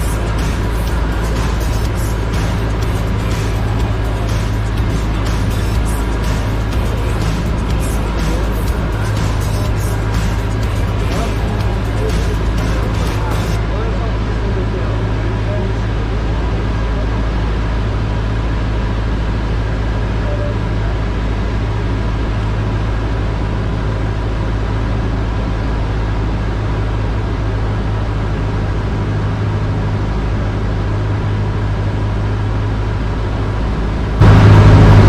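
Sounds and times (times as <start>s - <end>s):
propeller plane engine droning: 0.0s - 35.0s.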